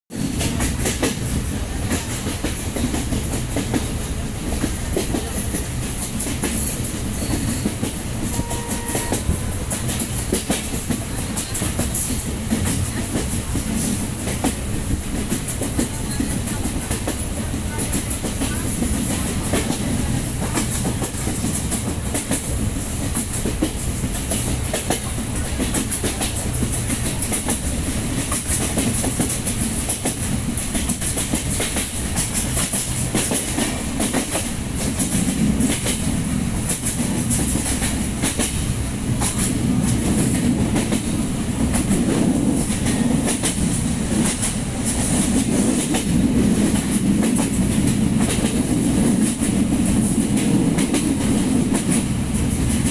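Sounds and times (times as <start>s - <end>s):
train rumble: 0.1s - 52.9s
train wheels clattering: 0.1s - 52.9s.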